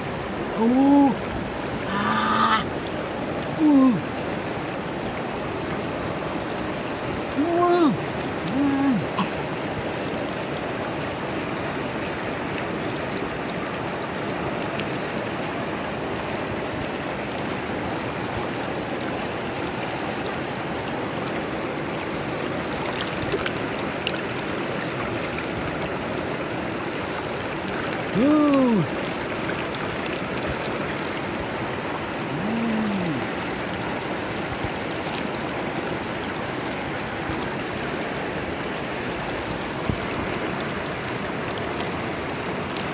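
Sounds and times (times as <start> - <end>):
river rushing over rocks: 0.0 - 42.9.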